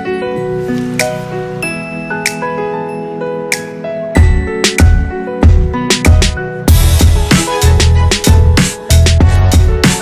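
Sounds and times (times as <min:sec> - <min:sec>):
music of sustained notes: 0:00.0 - 0:10.0.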